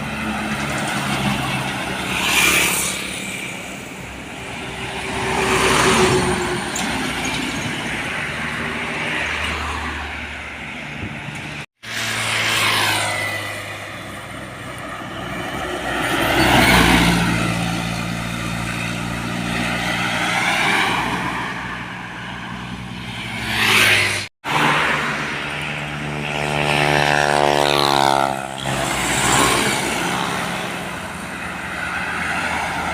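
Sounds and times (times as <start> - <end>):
vehicles driving past: 0.0 - 32.9.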